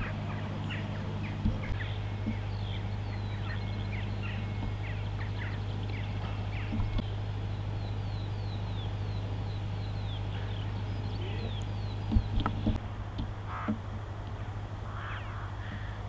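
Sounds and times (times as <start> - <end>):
quick falling bird calls: 0.0 - 12.8, 13.4 - 16.0
small birds chirping: 0.0 - 16.0
steady low hum: 0.0 - 16.0.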